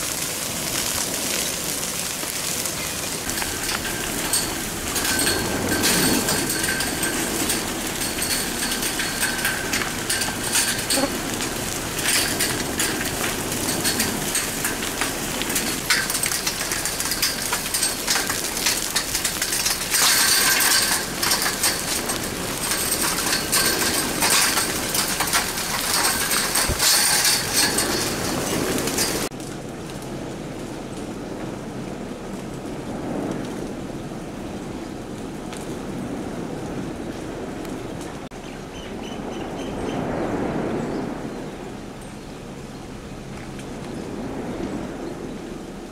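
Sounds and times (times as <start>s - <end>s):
lava crust cracking and clinking: 0.0s - 38.4s.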